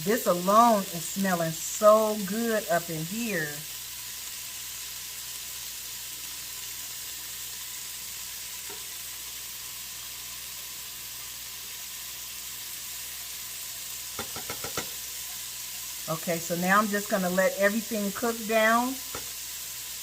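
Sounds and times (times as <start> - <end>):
vegetables sizzling in a pot: 0.0 - 20.0.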